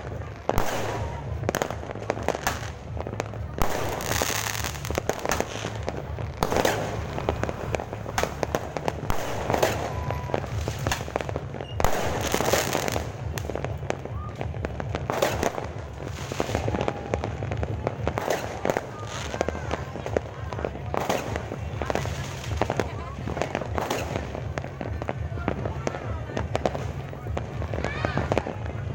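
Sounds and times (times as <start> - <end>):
fireworks crackling pops: 0.0 - 28.9.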